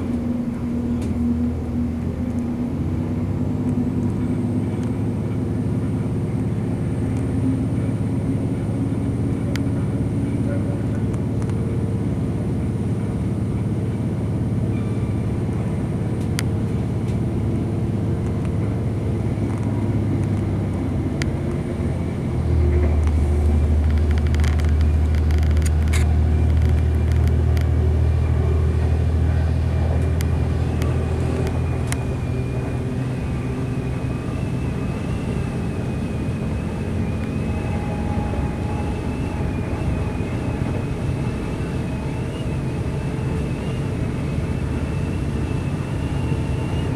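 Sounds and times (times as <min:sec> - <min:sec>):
diesel train engine drone: 0:00.0 - 0:46.9
train wheels on rails: 0:00.0 - 0:46.9.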